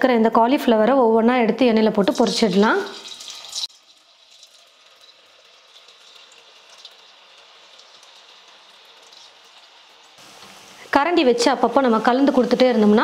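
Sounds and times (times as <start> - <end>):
cauliflower sizzling in hot oil: 1.9 - 13.0.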